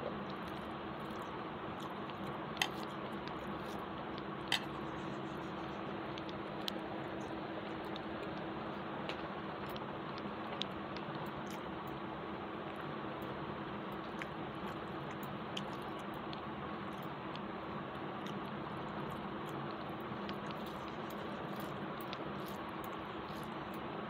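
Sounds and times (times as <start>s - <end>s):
faint chewing: 0.0s - 24.0s
steady background hiss: 0.0s - 24.0s.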